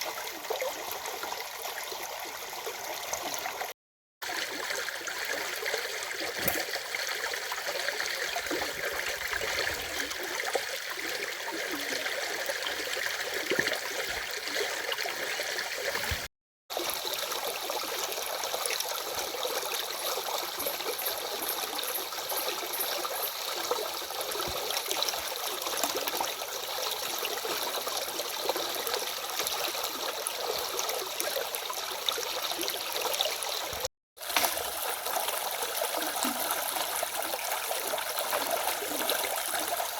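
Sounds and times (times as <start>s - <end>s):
stream running and trickling: 0.0s - 39.9s.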